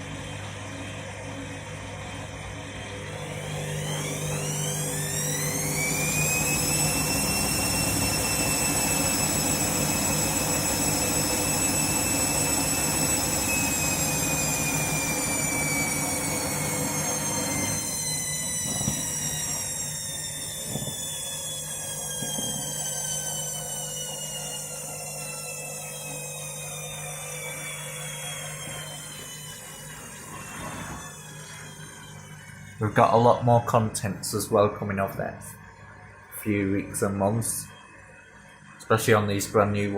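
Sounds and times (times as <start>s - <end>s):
washing machine spinning: 0.0s - 34.1s.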